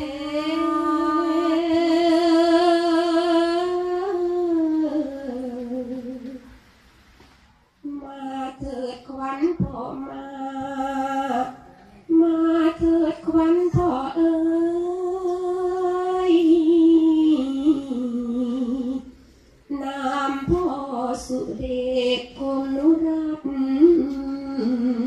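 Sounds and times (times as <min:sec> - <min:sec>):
woman singing into microphone: 0:00.0 - 0:06.6, 0:07.8 - 0:19.1, 0:19.7 - 0:25.0.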